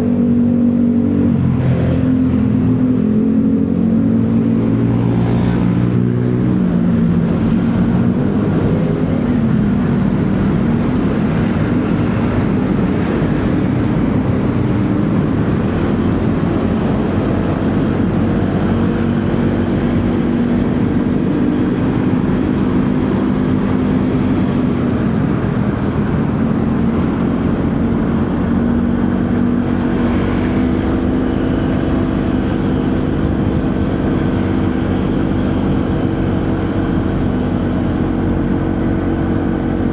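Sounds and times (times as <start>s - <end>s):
motorcycle engine running: 0.0s - 39.9s
surrounding traffic: 0.0s - 39.9s
wind rush: 0.0s - 39.9s.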